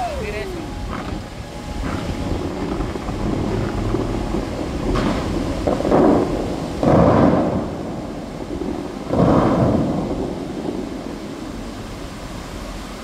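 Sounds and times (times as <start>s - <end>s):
fountain jets bursting spray: 0.0s - 13.0s
rush of falling water: 0.0s - 13.0s.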